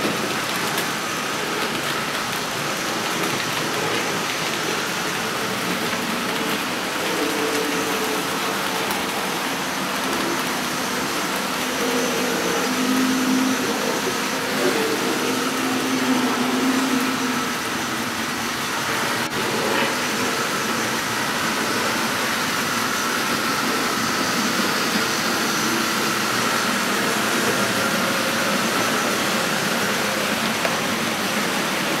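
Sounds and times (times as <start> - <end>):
model train motors whirring: 0.0 - 32.0
faint high whine: 4.7 - 31.6.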